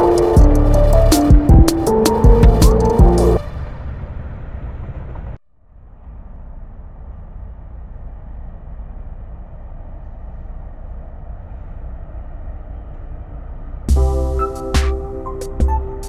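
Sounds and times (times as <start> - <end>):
freight train rumbling: 0.0 - 5.4, 6.0 - 16.0.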